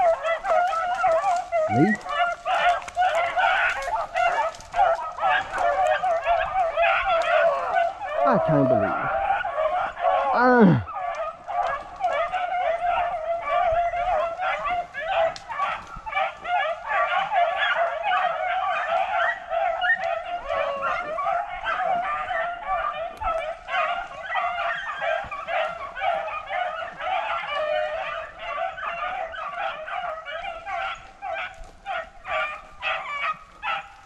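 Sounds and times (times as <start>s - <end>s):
pack of hounds baying: 0.0s - 34.0s.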